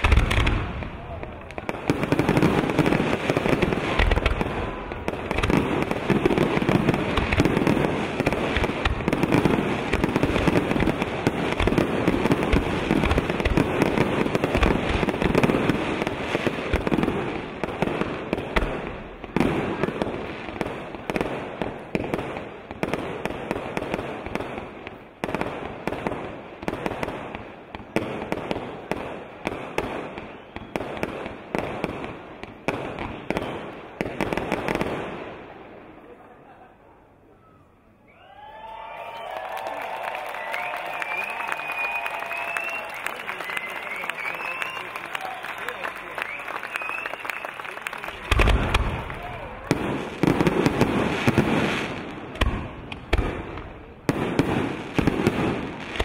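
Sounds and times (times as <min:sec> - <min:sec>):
firework crackling: 0:00.0 - 0:35.4, 0:39.1 - 0:56.0.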